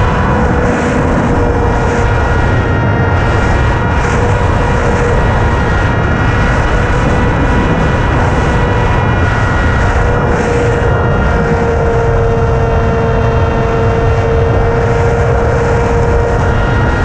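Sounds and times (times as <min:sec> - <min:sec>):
drone motors whining: 0:00.0 - 0:17.0
wind rush: 0:00.0 - 0:17.0.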